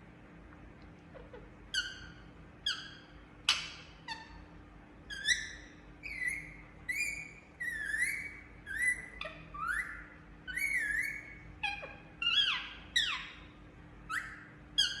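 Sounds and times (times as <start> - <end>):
parakeet shrill chirps: 1.2 - 4.5, 5.1 - 15.0.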